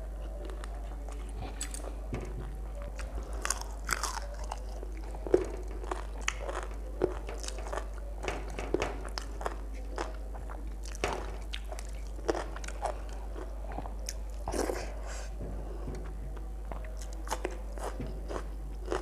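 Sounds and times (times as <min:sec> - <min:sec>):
fingers mixing rice on a plate: 0:00.0 - 0:19.0
steady low hum: 0:00.0 - 0:19.0.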